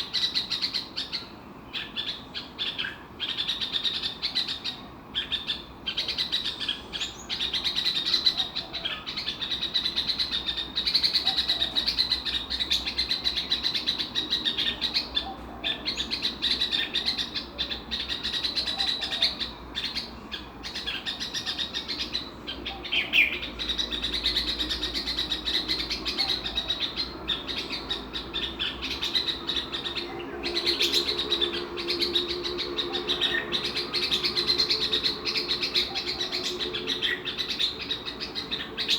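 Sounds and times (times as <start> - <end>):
songbird chattering song: 0.0 - 38.9.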